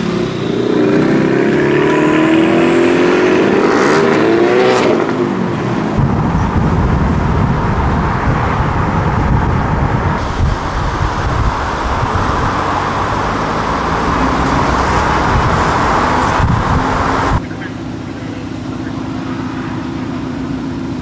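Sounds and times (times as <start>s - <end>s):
car engine running loudly: 0.0s - 21.0s
steady rush of noise: 0.0s - 21.0s.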